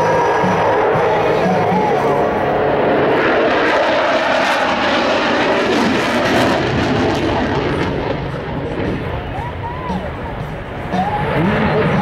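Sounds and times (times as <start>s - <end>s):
fighter jet engine roaring: 0.0s - 12.0s.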